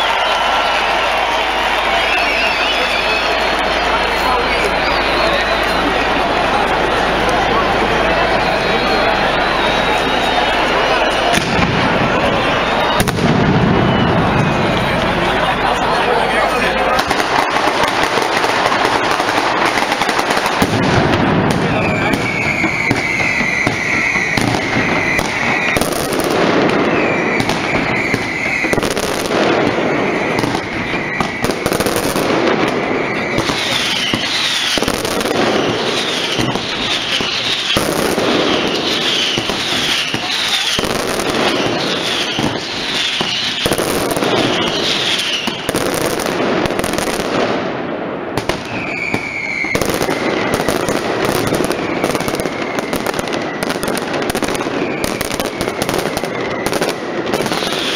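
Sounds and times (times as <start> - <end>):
firecrackers banging: 0.0 - 57.9
whistling fireworks: 0.0 - 57.9.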